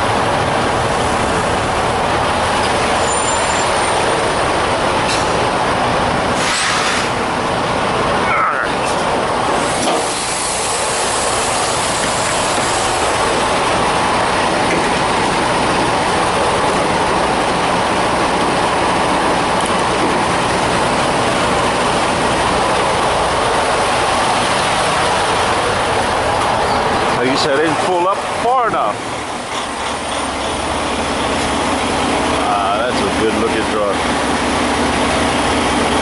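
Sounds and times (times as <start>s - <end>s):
moving vehicle noise: 0.0s - 36.0s.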